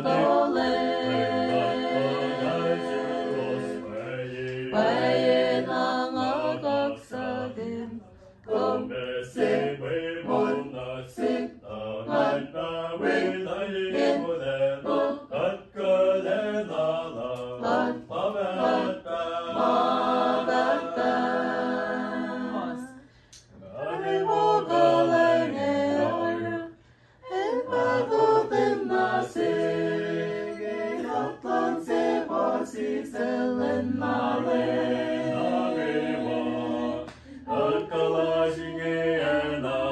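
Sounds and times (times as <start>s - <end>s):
unaccompanied singing: 0.0s - 39.9s.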